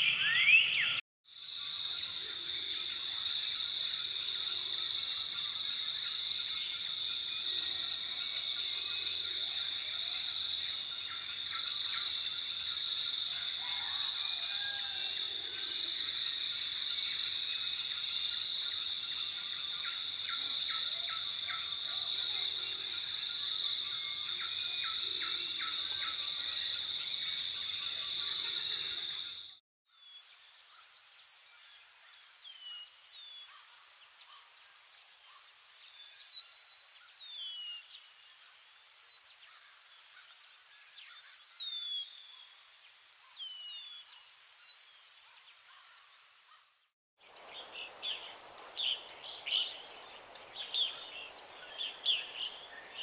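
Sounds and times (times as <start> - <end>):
insect drone with chirps: 1.3 - 53.0.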